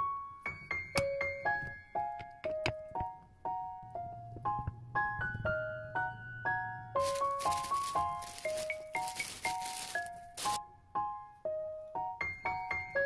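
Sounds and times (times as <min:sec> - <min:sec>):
light piano melody: 0:00.0 - 0:13.0.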